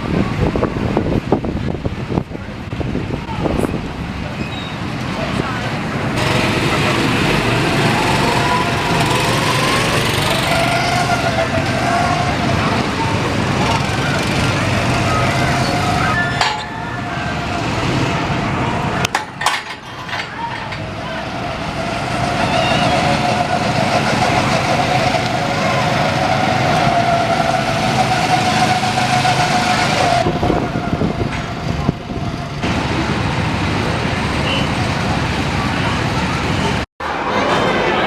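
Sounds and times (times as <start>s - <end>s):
go-kart engines running: 3.3s - 38.0s.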